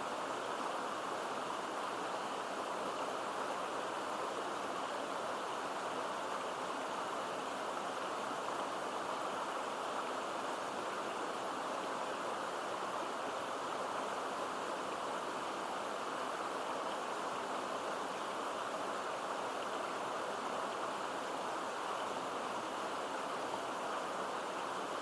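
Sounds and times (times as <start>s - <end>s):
water rushing over a waterfall: 0.0s - 25.0s.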